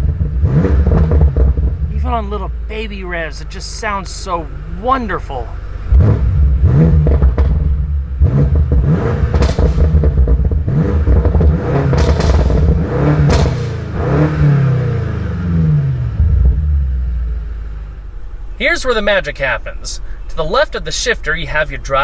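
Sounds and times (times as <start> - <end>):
car engine revving: 0.0 - 22.0
exhaust pops and crackles: 0.0 - 22.0.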